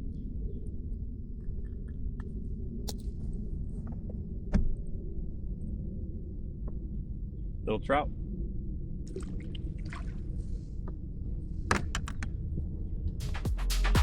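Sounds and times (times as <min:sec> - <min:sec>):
wind rumble on microphone: 0:00.0 - 0:13.2.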